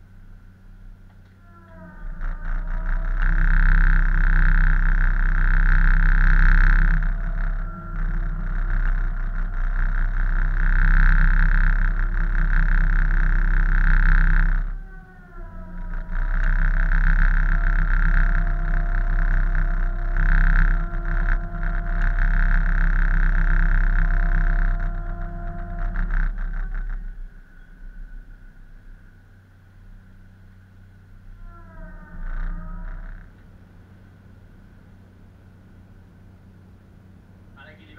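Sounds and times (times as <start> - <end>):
ship engines droning: 0.0 - 37.9.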